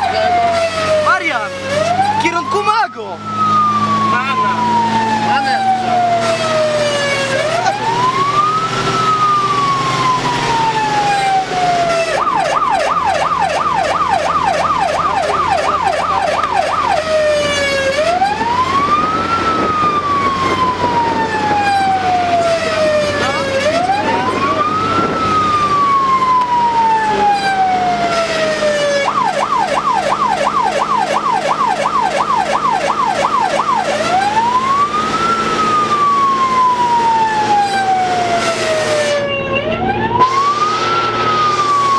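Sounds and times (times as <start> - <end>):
fire engine siren wailing and yelping: 0.0 - 41.9
truck engine running: 0.0 - 41.9.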